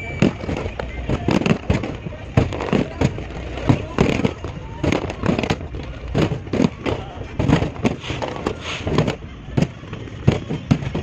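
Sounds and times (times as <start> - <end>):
rumble of firework bursts: 0.0 - 11.0.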